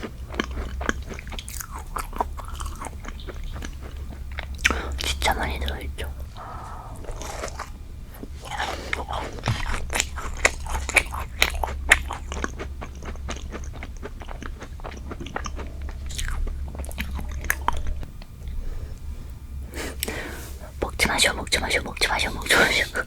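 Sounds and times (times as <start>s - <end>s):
crunching and chewing: 0.0s - 22.8s
faint low hum: 0.0s - 23.0s.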